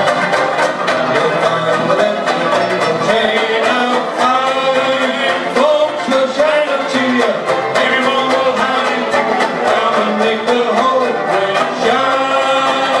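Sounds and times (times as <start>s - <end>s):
strummed banjos: 0.0s - 13.0s
men singing together: 1.0s - 13.0s.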